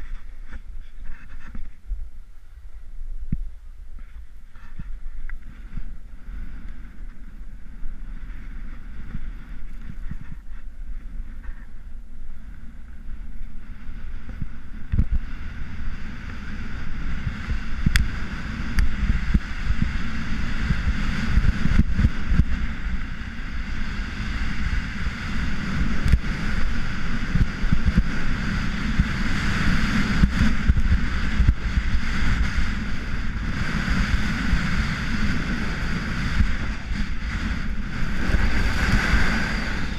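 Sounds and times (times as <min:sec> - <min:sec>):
wind rumbling on microphone: 0:00.0 - 0:39.9
skis scraping on snow: 0:04.0 - 0:39.9.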